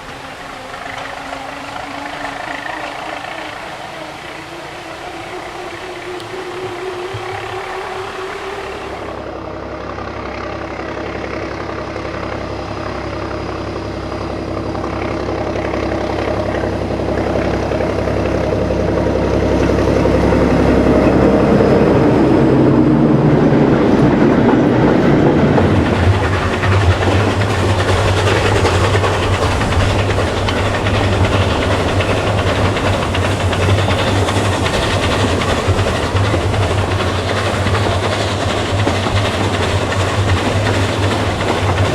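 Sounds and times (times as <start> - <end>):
train clickety-clack on rails: 0.0 - 9.4, 10.2 - 41.9.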